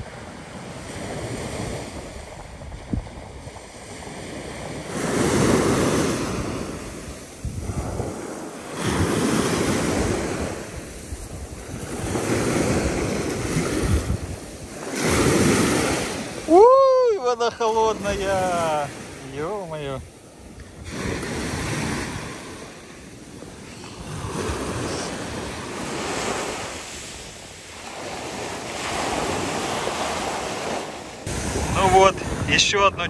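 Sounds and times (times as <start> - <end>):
sea waves washing on beach: 0.0 - 33.0
wind buffeting microphone: 0.0 - 33.0.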